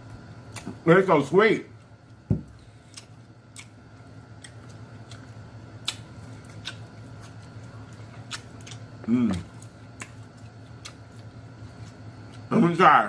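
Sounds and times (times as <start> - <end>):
steady low hum: 0.0 - 13.0
chewing with mouth clicks: 1.8 - 12.5.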